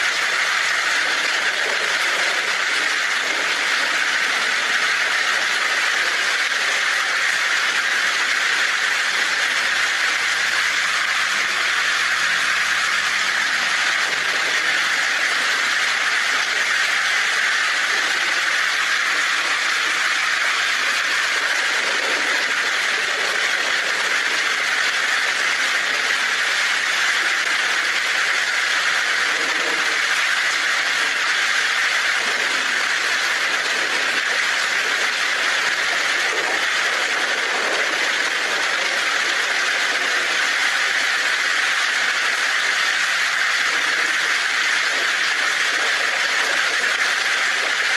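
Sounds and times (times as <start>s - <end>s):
heavy rain on a tin roof: 0.0s - 47.9s.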